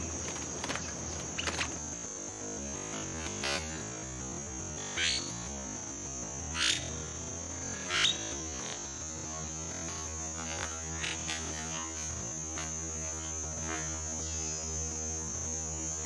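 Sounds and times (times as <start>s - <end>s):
electrical hum: 0.0s - 16.0s
high steady whine: 0.0s - 16.0s.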